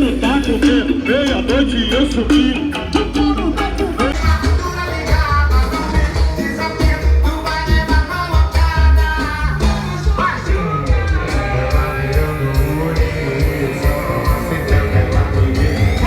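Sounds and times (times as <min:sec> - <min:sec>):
heavy pulsing bass beat: 0:00.0 - 0:16.0
loud music with singing: 0:00.0 - 0:16.0.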